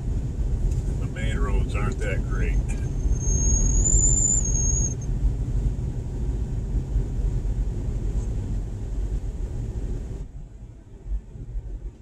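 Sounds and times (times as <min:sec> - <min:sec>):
vehicle driving on snow: 0:00.0 - 0:12.0.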